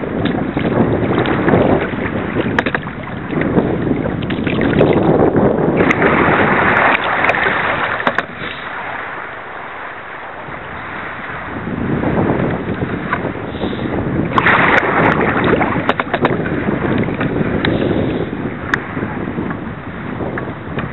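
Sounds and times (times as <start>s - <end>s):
water splashing around kayak: 0.0s - 20.9s
wind buffeting microphone: 0.0s - 20.9s.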